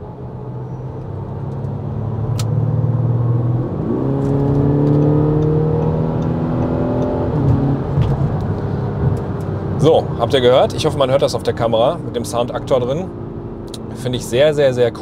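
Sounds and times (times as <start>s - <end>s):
diesel car accelerating: 0.0s - 15.0s.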